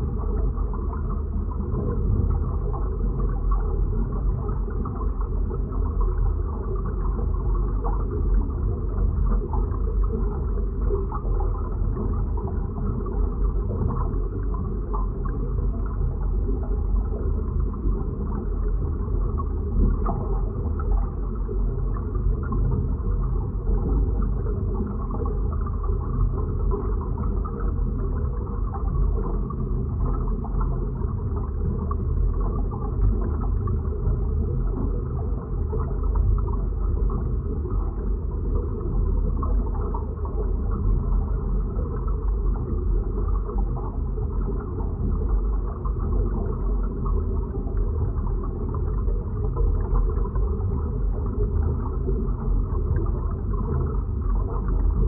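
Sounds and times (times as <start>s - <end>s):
deep dull rumble: 0.0s - 55.0s
faint creaks and crackles: 0.0s - 55.0s.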